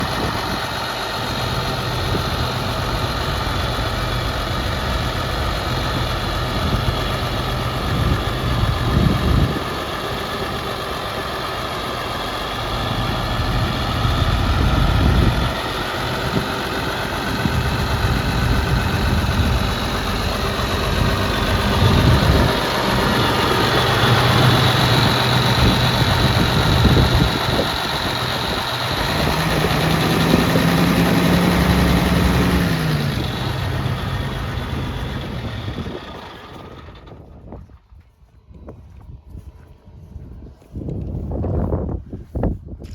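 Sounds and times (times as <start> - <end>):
tractor diesel engine idling: 0.0 - 37.8.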